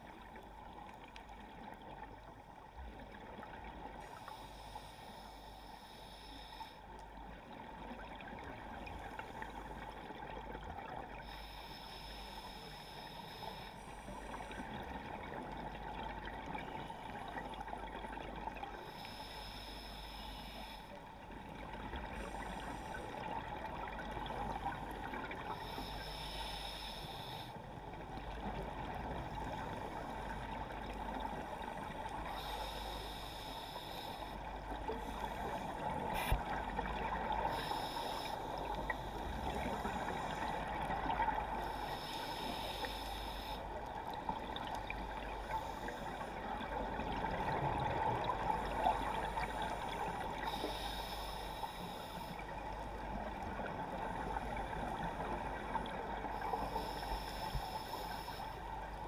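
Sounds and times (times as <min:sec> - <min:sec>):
underwater ambience: 0:00.0 - 0:59.0.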